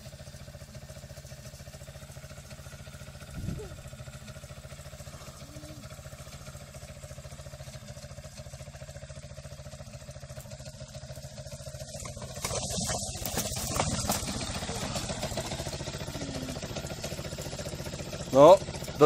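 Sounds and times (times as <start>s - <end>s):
quad bike engine idling: 0.0s - 19.0s.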